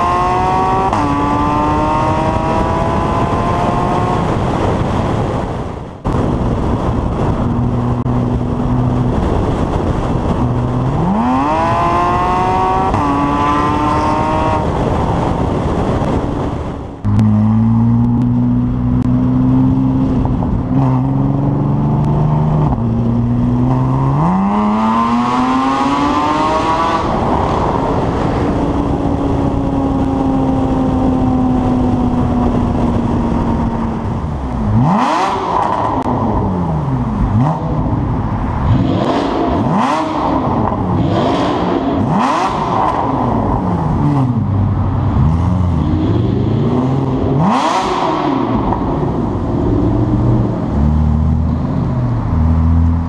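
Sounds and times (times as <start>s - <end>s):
sports car exhaust accelerating: 0.0s - 53.0s.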